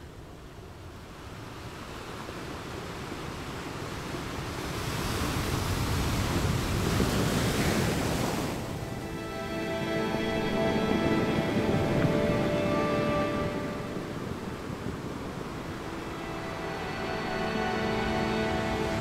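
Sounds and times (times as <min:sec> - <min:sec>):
rushing surf-like noise: 0:00.9 - 0:19.0.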